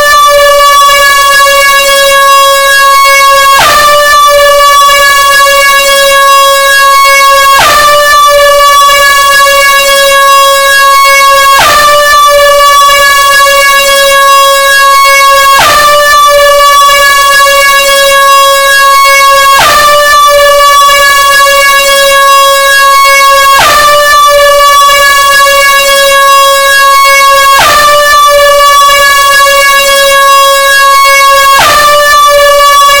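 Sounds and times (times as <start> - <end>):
air horn blaring: 0.0 - 33.0.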